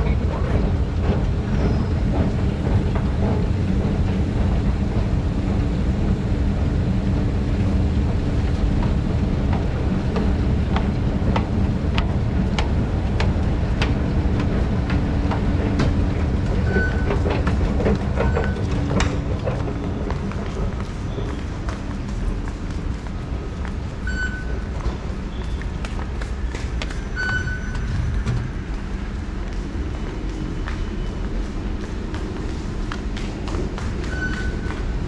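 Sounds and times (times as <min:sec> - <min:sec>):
escalator machinery rumbling: 0:00.0 - 0:35.0
footsteps: 0:00.1 - 0:35.0.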